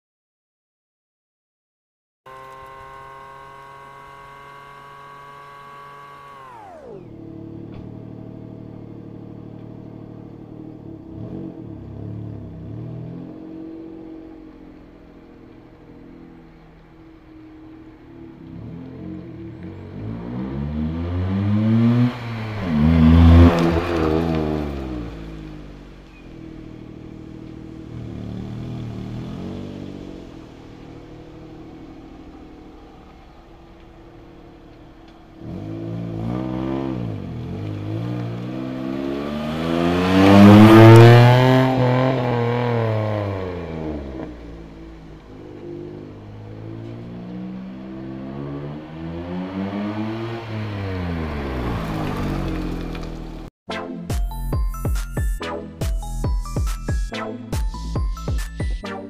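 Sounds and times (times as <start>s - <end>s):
car engine accelerating: 2.3s - 53.5s.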